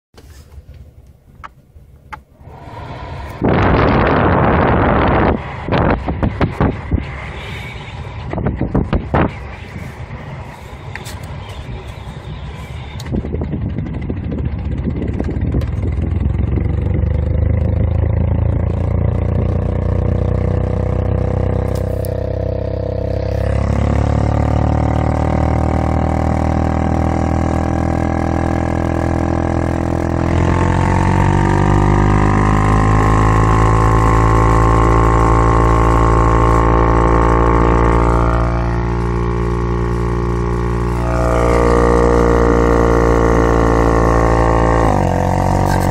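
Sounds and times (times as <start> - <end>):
car blower fan whining: 0.2 - 45.9.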